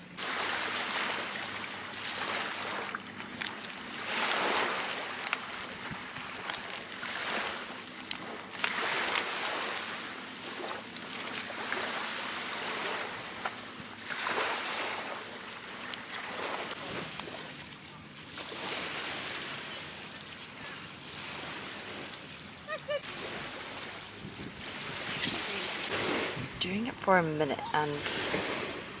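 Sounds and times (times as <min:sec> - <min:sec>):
waves on pebble shore: 0:00.0 - 0:29.0.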